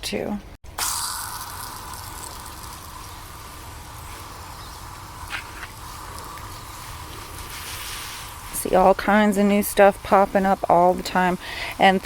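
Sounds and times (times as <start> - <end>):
garden hose spraying water: 0.7 - 12.0.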